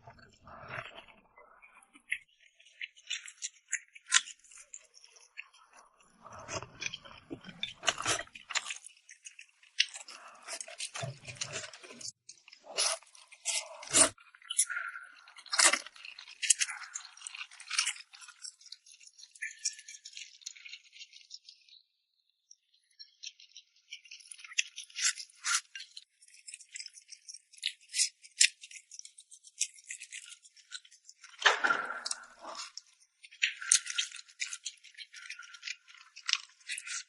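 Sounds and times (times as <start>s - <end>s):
person chewing and crunching: 1.9s - 21.0s, 24.1s - 37.0s.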